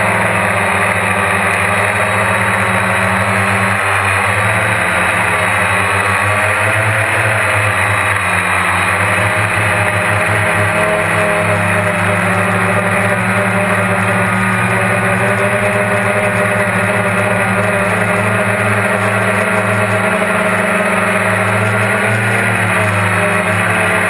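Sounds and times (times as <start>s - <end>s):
quadcopter motors buzzing: 0.0s - 24.0s.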